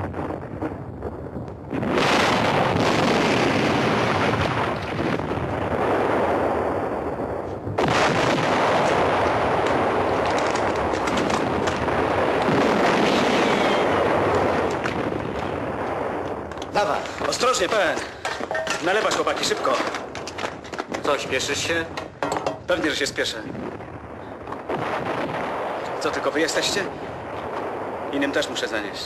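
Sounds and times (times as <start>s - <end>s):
artillery explosions and rumble: 0.0s - 29.0s
crackle of gunshots: 1.6s - 28.7s.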